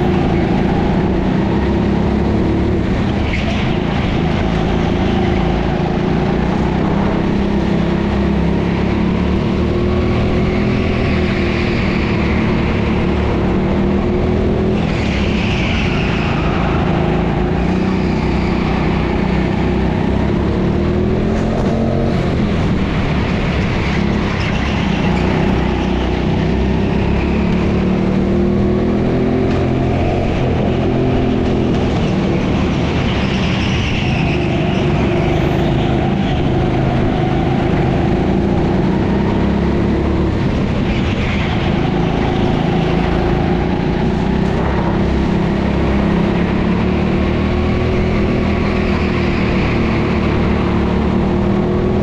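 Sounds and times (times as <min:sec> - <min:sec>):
go-kart motor racing: 0:00.0 - 0:52.0.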